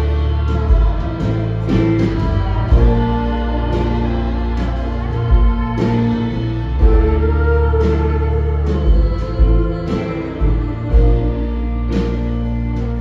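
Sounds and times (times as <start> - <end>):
bass guitar: 0.0 - 13.0
electric guitar chords: 0.0 - 13.0.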